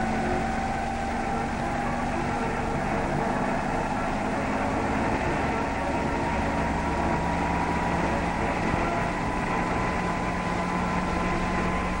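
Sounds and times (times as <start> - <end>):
helicopter engine drone: 0.0 - 12.0
helicopter whine: 0.0 - 12.0.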